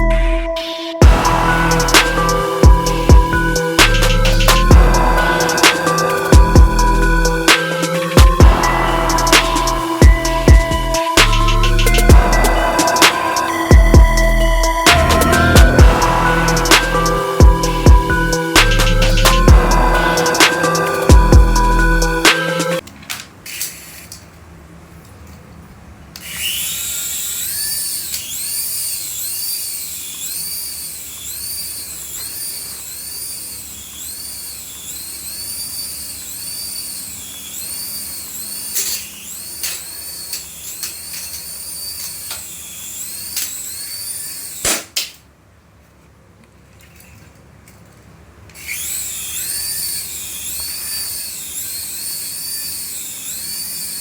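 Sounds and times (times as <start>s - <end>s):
toy warbling siren whistle: 0.0s - 22.8s, 26.3s - 44.6s, 48.6s - 54.0s
toy motor whir: 1.2s - 22.8s, 23.4s - 24.2s, 26.2s - 45.0s, 48.5s - 54.0s.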